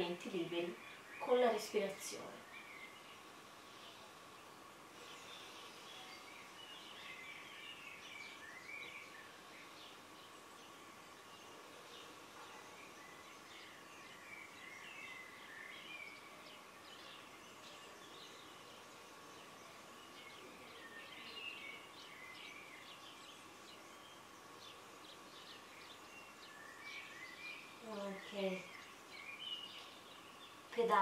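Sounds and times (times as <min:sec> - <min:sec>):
faint steady hum: 0:00.0 - 0:31.0
small birds chirping: 0:00.0 - 0:31.0.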